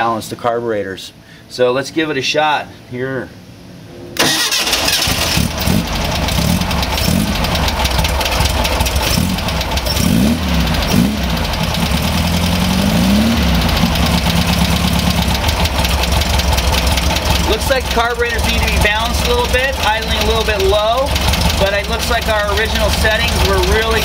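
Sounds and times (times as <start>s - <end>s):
car engine revving and idling: 4.5s - 24.0s.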